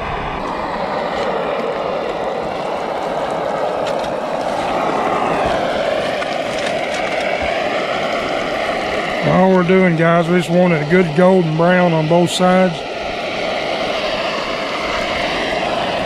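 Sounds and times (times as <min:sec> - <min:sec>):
gas stove burner flame rushing: 0:00.0 - 0:16.0.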